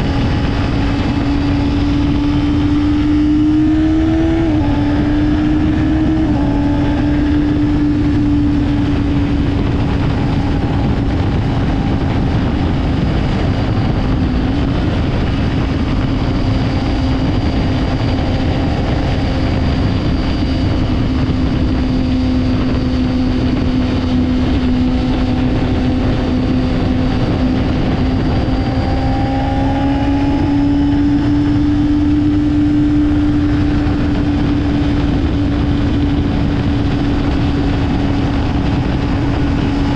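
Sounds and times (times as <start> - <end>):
dense rushing noise: 0.0 - 39.9
motorcycle engine at high revs: 0.0 - 39.9.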